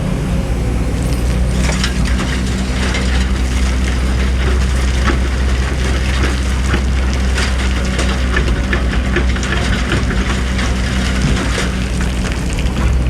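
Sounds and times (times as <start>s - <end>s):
diesel engine running: 0.0s - 13.0s
metallic clicks and clanks: 0.3s - 13.0s.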